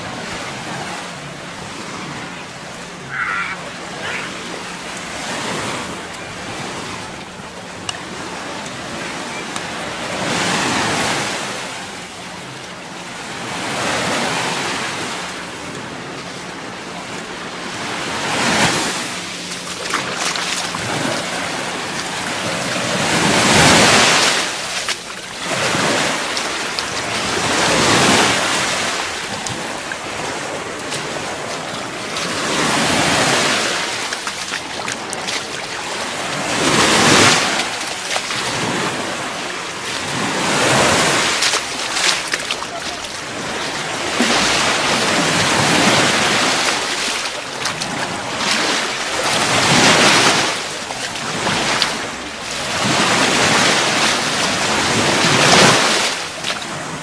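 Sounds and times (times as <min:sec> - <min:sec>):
waves breaking on sand: 0:00.0 - 0:57.0.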